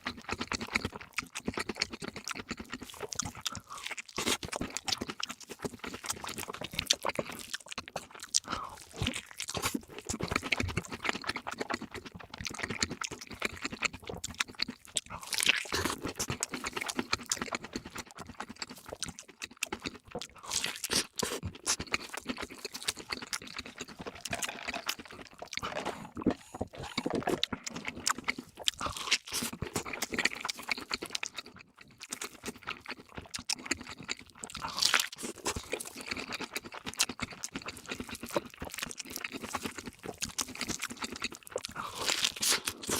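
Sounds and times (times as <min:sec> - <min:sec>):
chewing crispy fried food: 0:00.0 - 0:42.9.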